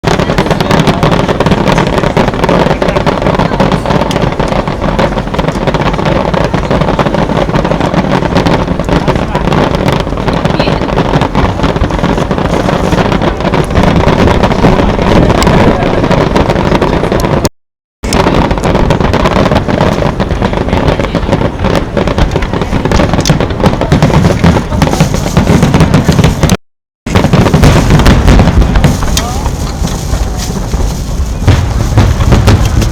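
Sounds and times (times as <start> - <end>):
fireworks booms and crackles: 0.0 - 32.9.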